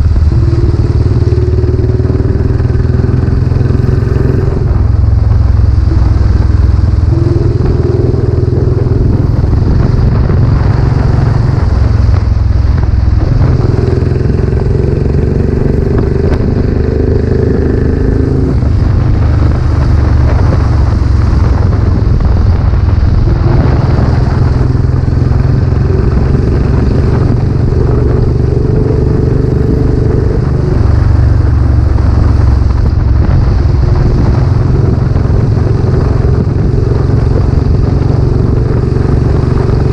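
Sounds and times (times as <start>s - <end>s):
single-cylinder motorcycle engine: 0.0s - 39.9s.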